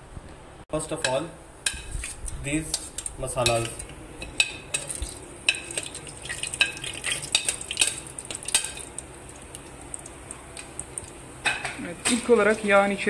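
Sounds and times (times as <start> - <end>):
oil sizzling: 1.4 - 13.0.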